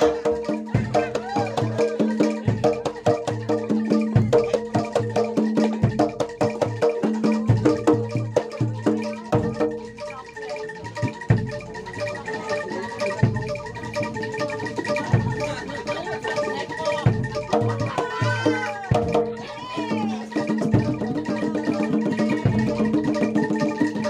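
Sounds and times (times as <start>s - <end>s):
bending melody line: 0.0s - 24.0s
metallophones ringing: 0.0s - 24.0s.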